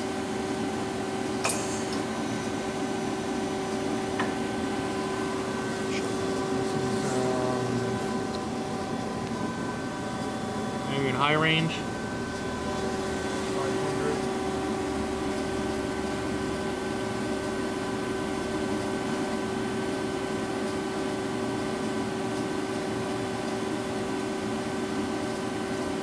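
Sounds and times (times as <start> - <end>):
machine whine over mechanical hum: 0.0 - 26.0.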